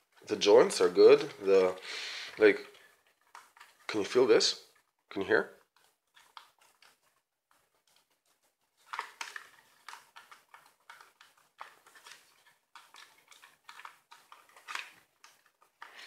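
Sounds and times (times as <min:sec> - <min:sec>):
faint plastic rubbing: 0:00.0 - 0:16.0.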